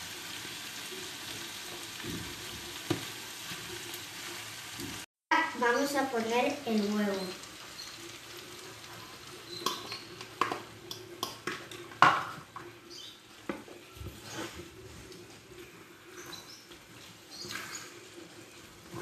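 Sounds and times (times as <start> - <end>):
low sizzle: 0.0 - 19.0.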